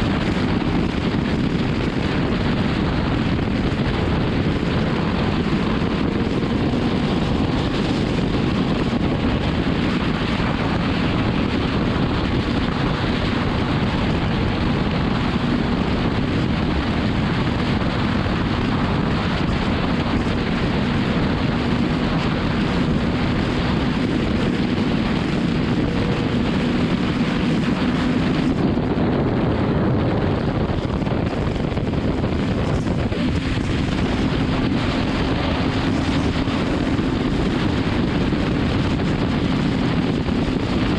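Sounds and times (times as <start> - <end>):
motorcycle engine drone: 0.0 - 40.9
wind rushing over microphone: 0.0 - 40.9.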